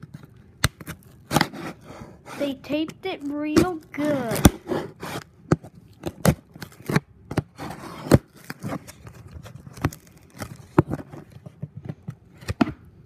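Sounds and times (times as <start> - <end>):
packing tape and cardboard crackling: 0.0 - 2.0, 3.2 - 12.8.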